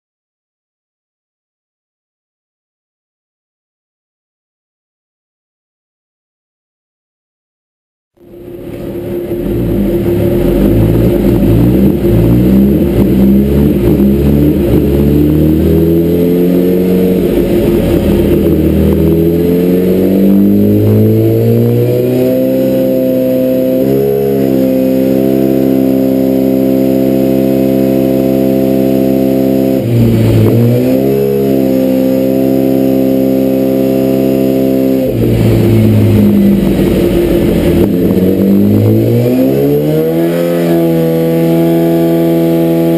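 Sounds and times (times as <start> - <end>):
motorcycle engine revving on dyno: 8.4 - 42.9.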